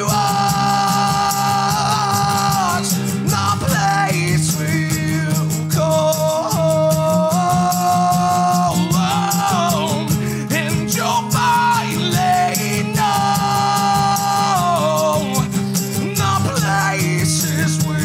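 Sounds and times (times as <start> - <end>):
man singing: 0.0 - 18.0
strummed acoustic guitar: 0.0 - 18.0.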